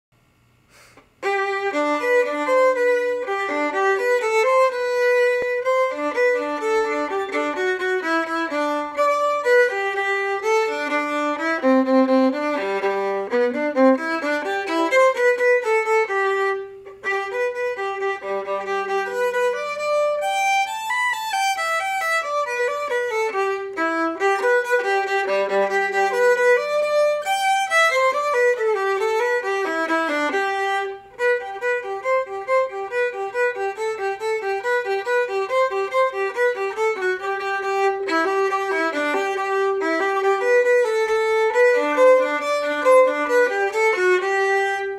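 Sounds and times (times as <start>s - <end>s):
solo violin melody: 1.2s - 44.9s.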